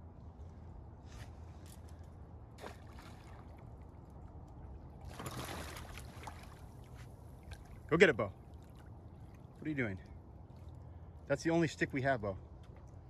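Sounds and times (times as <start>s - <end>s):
lake water lapping at shore: 2.5s - 13.0s.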